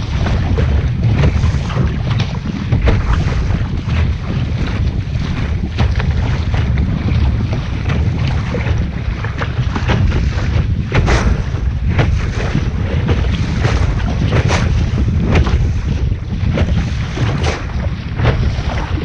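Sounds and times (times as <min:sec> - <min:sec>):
water splashing against hull: 0:00.0 - 0:19.0
wind buffeting microphone: 0:00.0 - 0:19.0.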